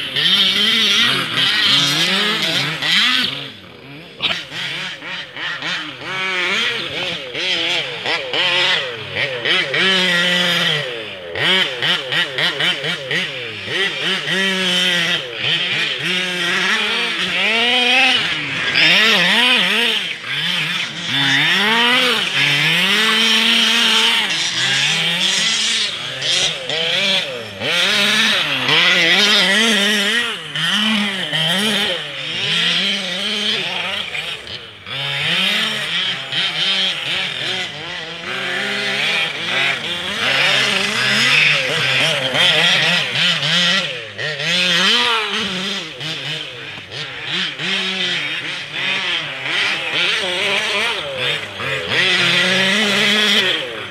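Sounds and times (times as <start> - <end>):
small two-stroke engine revving: 0.0 - 53.9.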